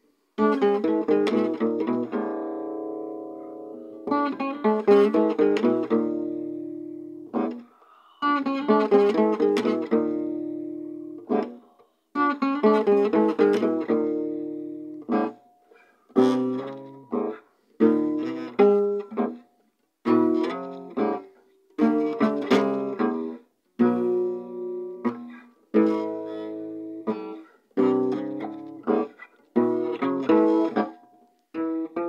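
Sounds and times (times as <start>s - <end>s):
acoustic guitar chords: 0.4s - 15.5s, 16.2s - 19.4s, 20.0s - 32.0s.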